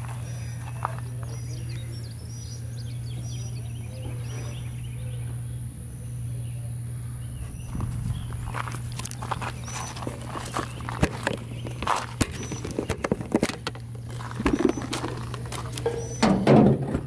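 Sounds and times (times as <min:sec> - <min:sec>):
birds chirping: 0:00.0 - 0:16.6
steady low hum: 0:00.0 - 0:17.0.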